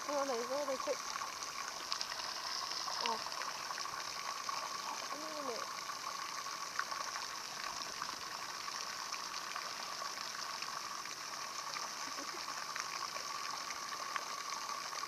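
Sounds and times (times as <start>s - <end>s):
pool water rippling: 0.0s - 15.0s
small water splashes: 0.0s - 15.0s.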